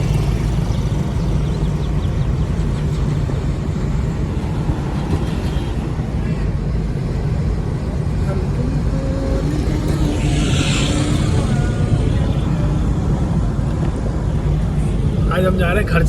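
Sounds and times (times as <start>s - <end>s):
low engine hum: 0.0s - 16.0s
road noise: 0.0s - 16.0s.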